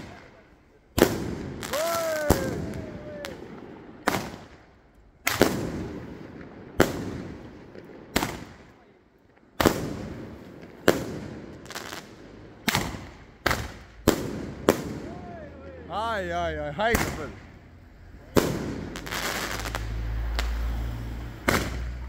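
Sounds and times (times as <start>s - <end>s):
fireworks bangs echoing: 0.0s - 22.0s.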